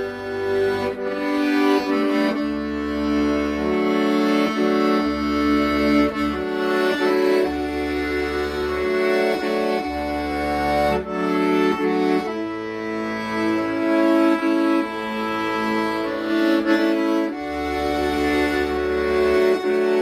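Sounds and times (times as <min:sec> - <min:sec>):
accordion playing slow melody: 0:00.0 - 0:20.0.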